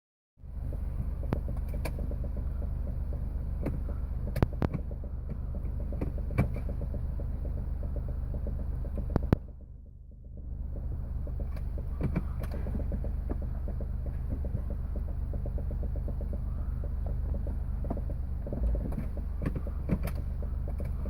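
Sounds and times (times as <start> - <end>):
car engine droning: 0.4 - 21.0
engine clicks: 0.4 - 21.0.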